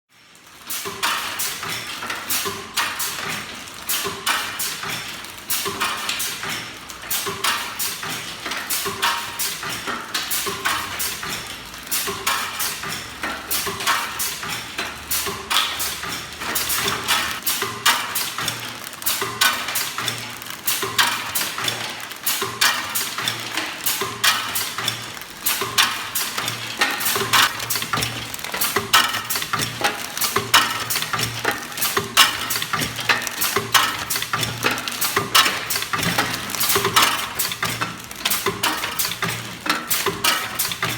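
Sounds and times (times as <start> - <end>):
packaging machine clattering: 0.4 - 40.9.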